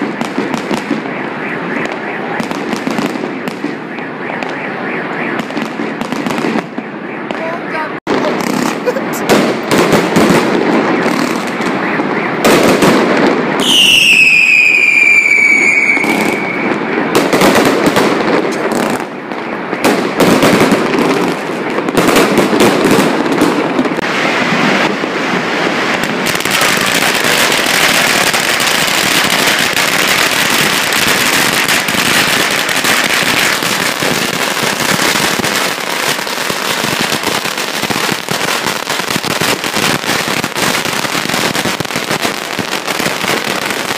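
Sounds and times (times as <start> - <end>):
fireworks bangs and crackle: 0.0 - 43.9
string of firecrackers crackling: 0.0 - 43.9
firework whistling: 8.4 - 43.9.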